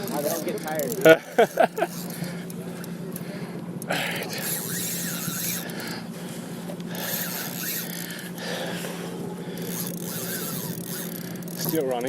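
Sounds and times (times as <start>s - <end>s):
fishing reel drag buzzing: 0.0s - 12.0s.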